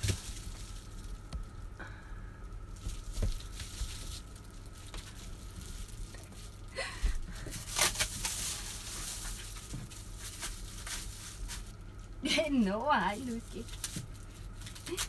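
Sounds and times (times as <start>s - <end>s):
rustling and crinkling handling noise: 0.0s - 1.8s, 2.4s - 15.0s.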